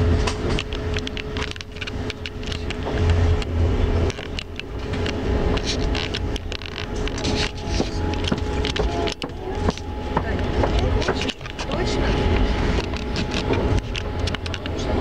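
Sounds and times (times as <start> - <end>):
faint steady hum: 0.0 - 15.0
train carriage rumbling: 0.0 - 15.0.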